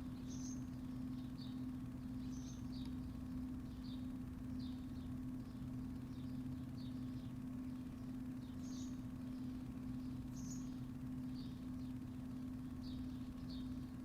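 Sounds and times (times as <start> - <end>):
low mechanical hum: 0.0 - 14.0
small birds chirping: 0.0 - 14.0.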